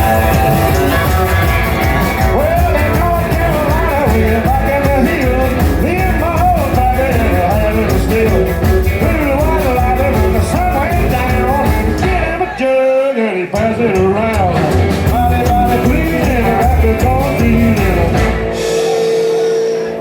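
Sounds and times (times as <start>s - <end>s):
rock band playing: 0.0s - 12.8s, 13.5s - 20.0s.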